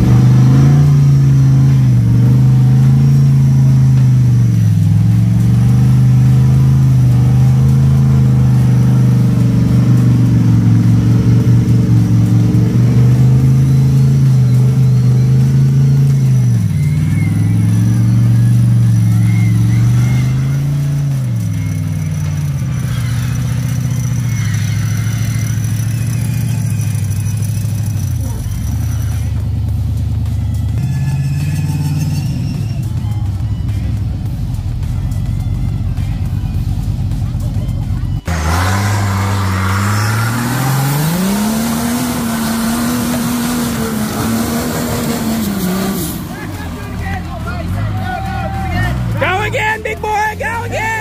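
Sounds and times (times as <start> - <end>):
truck engine revving: 0.0 - 51.0.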